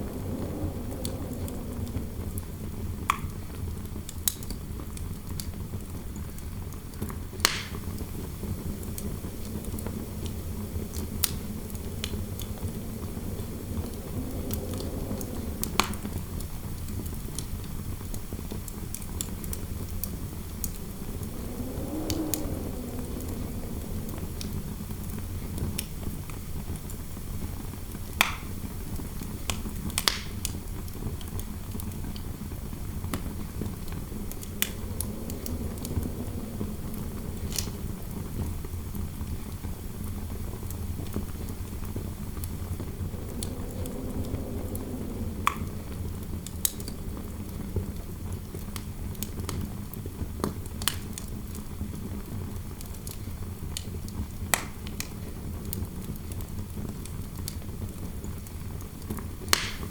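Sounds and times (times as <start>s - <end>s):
wind howling: 0.0s - 56.6s
fireplace fire crackling: 0.0s - 59.9s.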